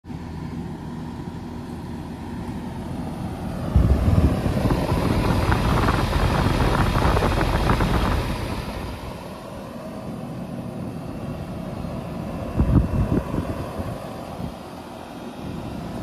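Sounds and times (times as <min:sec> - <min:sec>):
air conditioner unit whirring hum: 0:00.0 - 0:16.0.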